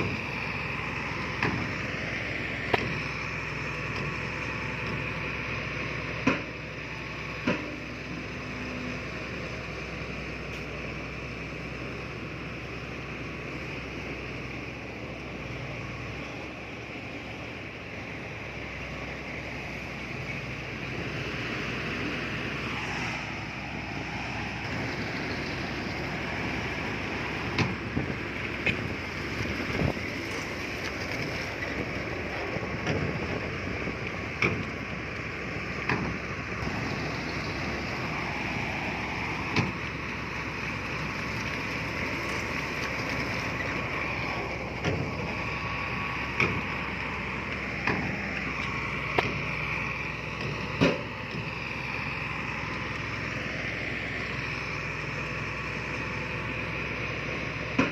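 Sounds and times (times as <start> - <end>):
diesel earthmoving machinery running: 0.0 - 57.9.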